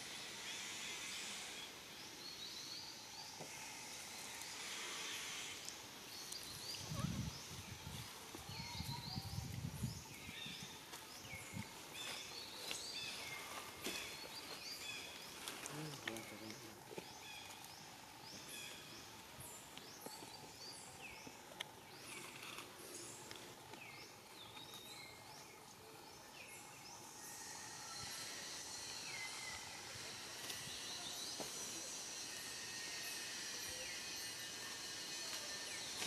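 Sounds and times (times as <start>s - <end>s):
steady high-pitched hiss: 0.0s - 36.0s.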